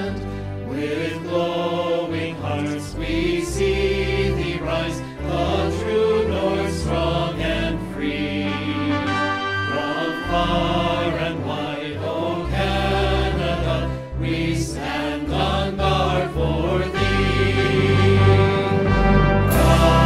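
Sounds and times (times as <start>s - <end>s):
choir-like voices: 0.0s - 20.0s.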